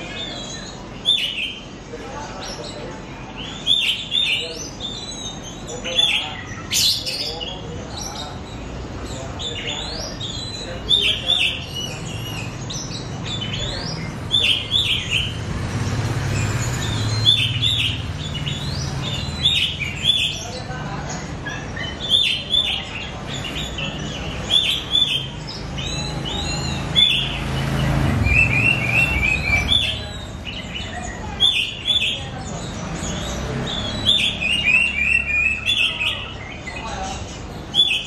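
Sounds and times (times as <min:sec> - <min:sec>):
bird chirping song: 0:00.0 - 0:38.0.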